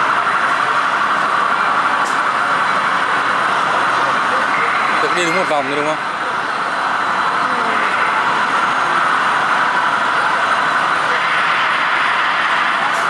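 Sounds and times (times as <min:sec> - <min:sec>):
small train running on rail track: 0:00.0 - 0:13.0.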